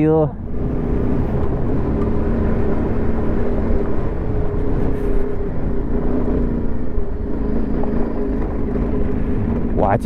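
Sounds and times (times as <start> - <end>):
motorcycle engine running: 0.4 - 10.0.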